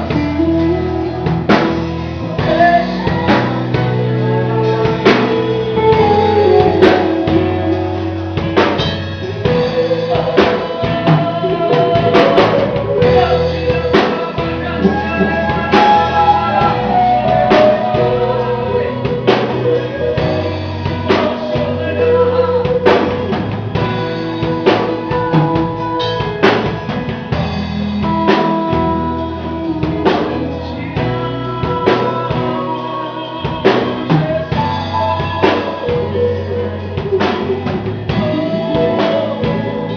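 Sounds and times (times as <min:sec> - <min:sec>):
worship song singing with band: 0:00.0 - 0:39.9.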